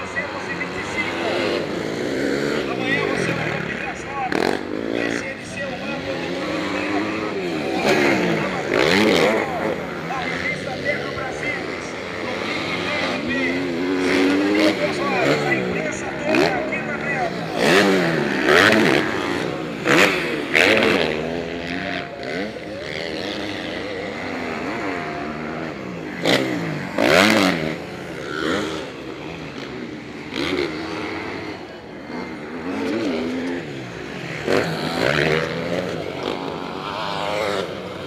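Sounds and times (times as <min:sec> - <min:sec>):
motocross bike engines revving: 0:00.0 - 0:38.0.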